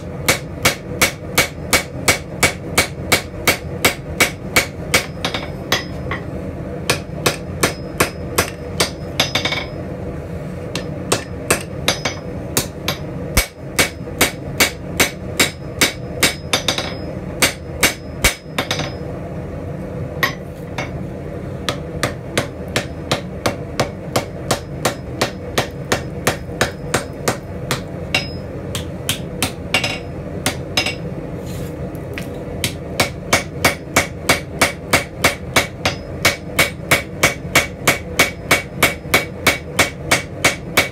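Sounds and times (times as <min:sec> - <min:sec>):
hammer striking hot steel on anvil: 0:00.0 - 0:09.9, 0:10.7 - 0:19.2, 0:20.2 - 0:21.0, 0:21.6 - 0:31.2, 0:32.6 - 0:40.9.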